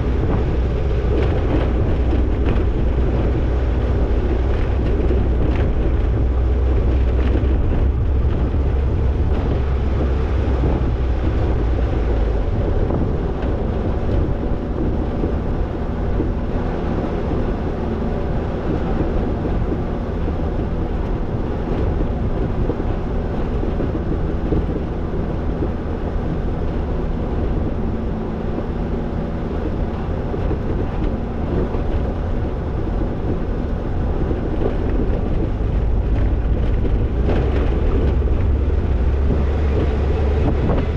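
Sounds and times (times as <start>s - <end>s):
car engine hum: 0.0s - 40.9s
road and wind noise: 0.0s - 40.9s.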